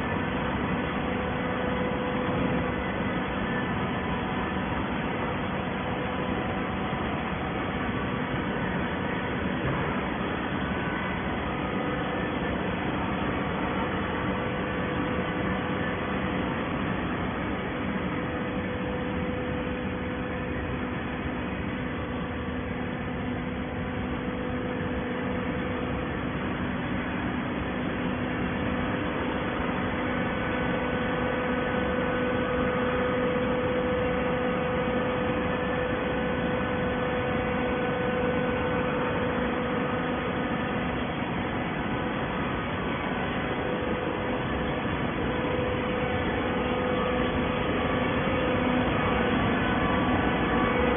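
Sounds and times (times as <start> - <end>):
baler machinery humming: 0.0 - 50.9
constant tone: 0.0 - 50.9.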